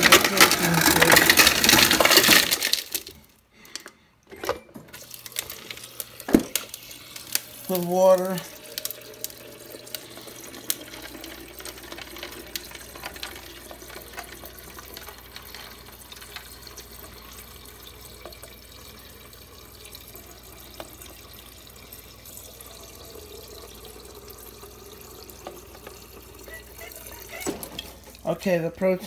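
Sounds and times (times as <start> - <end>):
water running into a cup: 0.0 - 3.1, 4.9 - 29.0.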